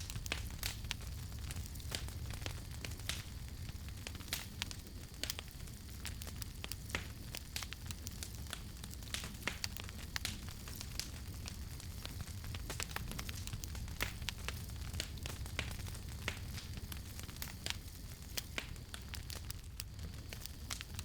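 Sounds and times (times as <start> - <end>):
campfire flames rumbling: 0.0 - 21.0
fire crackles and pops: 0.0 - 21.0.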